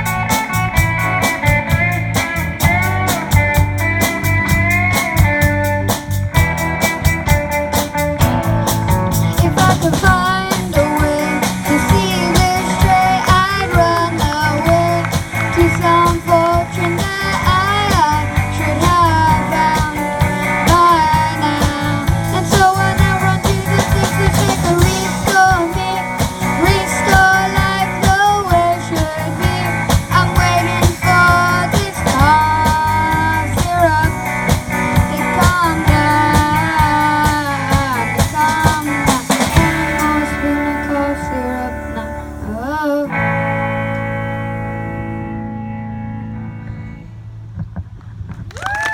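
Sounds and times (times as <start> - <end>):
sliding lead melody: 0.0 - 48.0
bass guitar: 0.0 - 48.9
drums: 0.0 - 48.9
electric guitar: 0.0 - 48.9.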